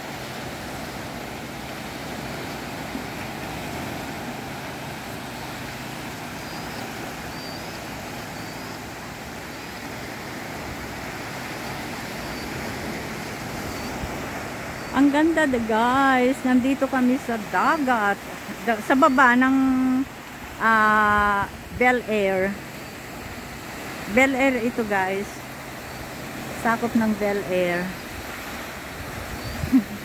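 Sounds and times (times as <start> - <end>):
small waves washing on shore: 0.0 - 30.0.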